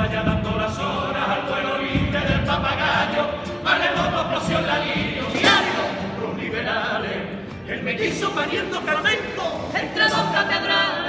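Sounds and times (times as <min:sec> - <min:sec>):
guitar accompaniment: 0:00.0 - 0:11.0
male chorus singing in unison: 0:00.0 - 0:11.0.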